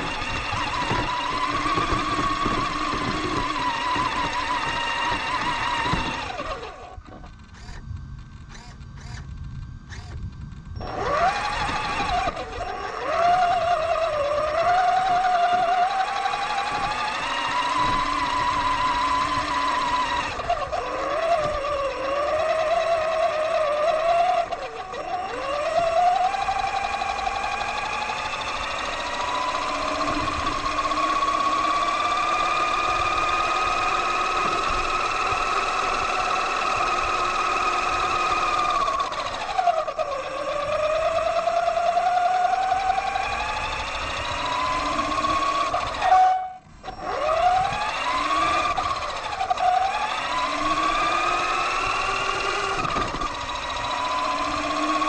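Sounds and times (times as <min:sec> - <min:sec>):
electric motor whining: 0:00.0 - 0:55.0
wheels rumbling and knocking: 0:00.0 - 0:55.0.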